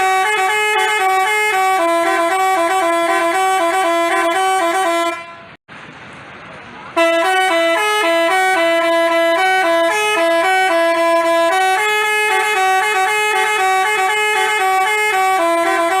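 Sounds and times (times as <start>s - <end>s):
bus horn playing a tune: 0.0s - 5.6s, 7.0s - 16.0s.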